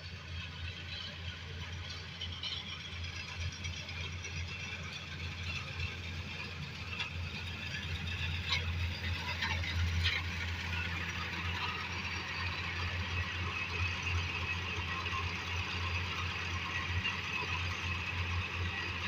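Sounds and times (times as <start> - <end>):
combine harvester engine humming: 0.0 - 19.0.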